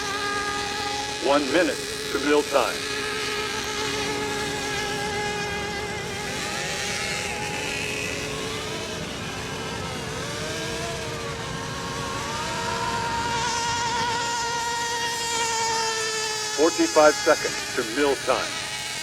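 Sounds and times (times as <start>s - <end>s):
model boat motors whining: 0.0s - 19.0s.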